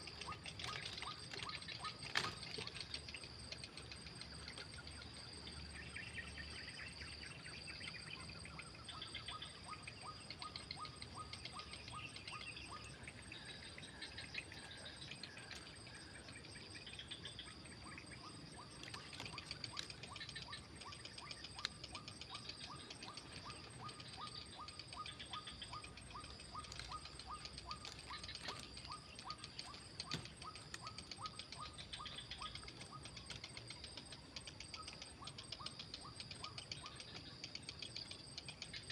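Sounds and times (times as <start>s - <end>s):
insect chorus: 0.0s - 38.9s
quick ticking insect calls: 0.0s - 38.9s.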